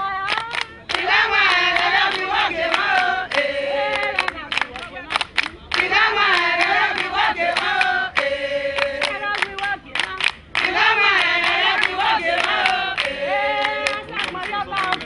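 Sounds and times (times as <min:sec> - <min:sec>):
women singing together: 0:00.0 - 0:15.0
hand claps: 0:00.1 - 0:15.0.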